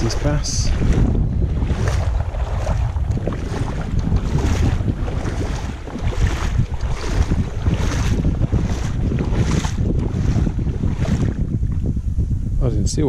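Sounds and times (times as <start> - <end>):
wading through shallow water: 0.0 - 12.0
wind buffeting microphone: 0.0 - 13.0.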